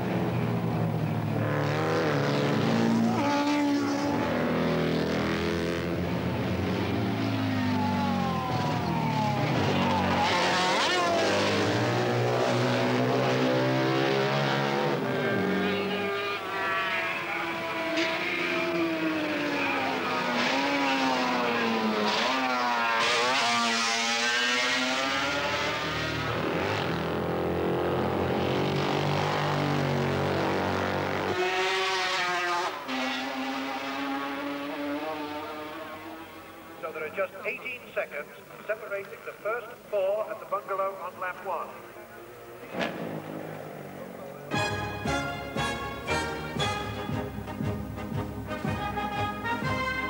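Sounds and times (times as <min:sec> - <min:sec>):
racing motorcycle engines revving: 0:00.0 - 0:39.7, 0:40.3 - 0:50.0.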